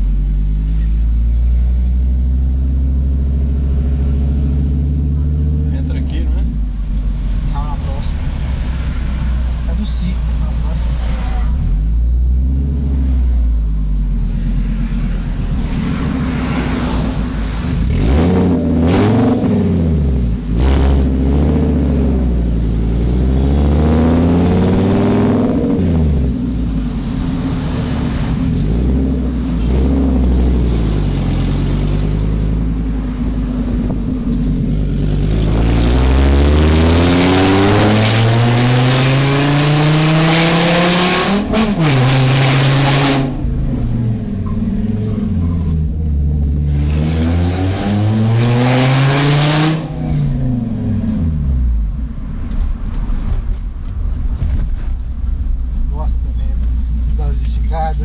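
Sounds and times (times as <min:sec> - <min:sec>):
loud car engine revving: 0:00.0 - 0:58.0.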